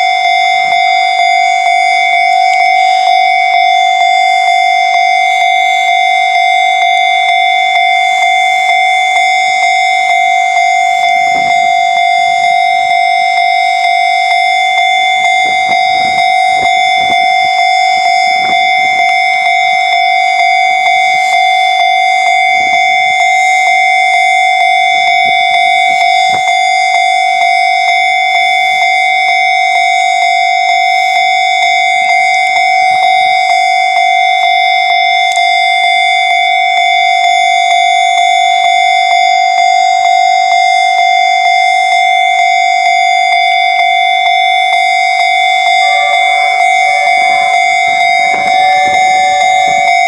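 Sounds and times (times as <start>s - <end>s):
level-crossing warning bell: 0.0s - 50.0s.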